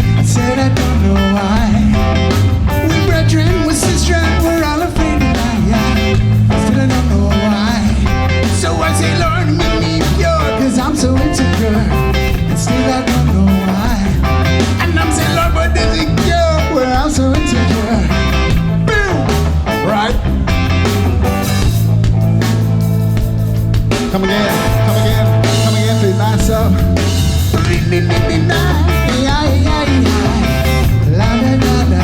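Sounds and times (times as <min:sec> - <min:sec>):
live band playing reggae: 0:00.0 - 0:32.0.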